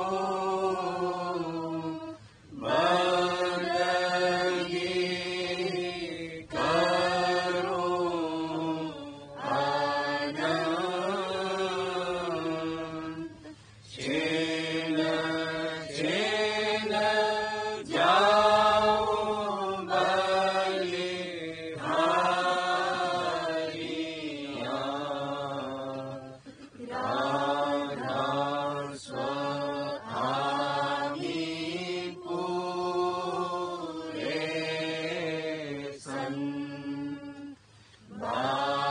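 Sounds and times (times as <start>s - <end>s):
person chanting a hymn: 0.0s - 38.9s.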